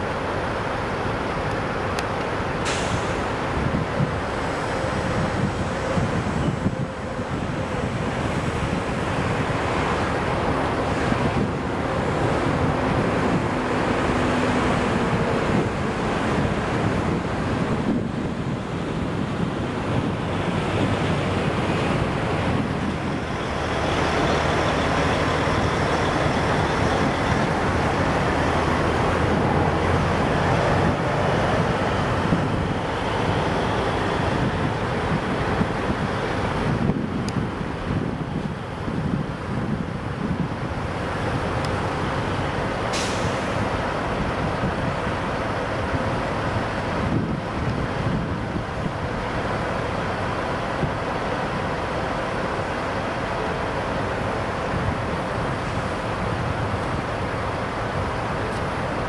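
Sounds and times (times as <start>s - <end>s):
low vehicle drone: 0.0s - 59.0s
wind buffeting the microphone: 1.4s - 59.0s.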